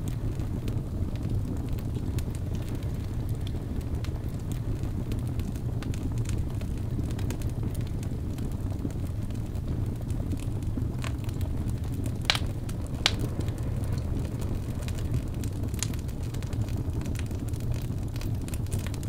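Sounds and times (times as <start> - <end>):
fire crackling and popping: 0.0 - 19.0
wood fire burning: 0.0 - 19.0.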